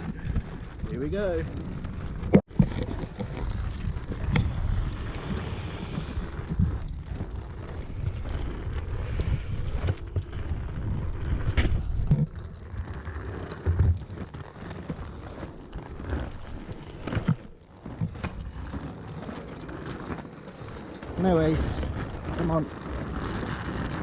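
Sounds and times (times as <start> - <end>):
skate wheels rolling on pavement: 0.0 - 24.0
wind buffeting microphone: 0.0 - 24.0.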